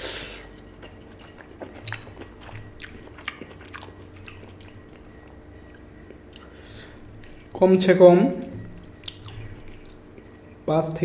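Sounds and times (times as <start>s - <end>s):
person chewing wet food: 0.0s - 7.7s, 8.4s - 10.6s.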